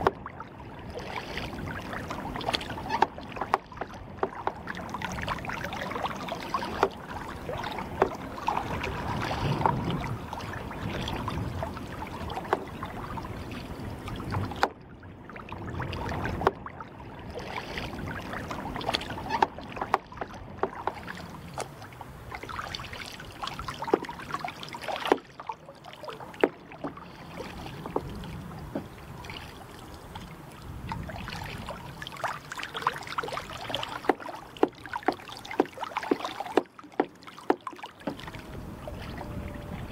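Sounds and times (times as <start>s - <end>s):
paddle splashes and drips: 0.0s - 39.9s
water lapping around kayak: 0.0s - 39.9s.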